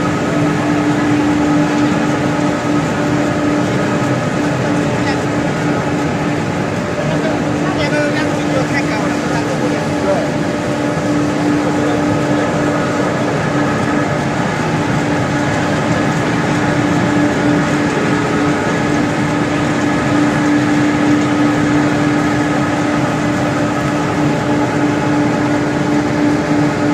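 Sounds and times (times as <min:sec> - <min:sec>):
industrial machinery drone: 0:00.0 - 0:26.9.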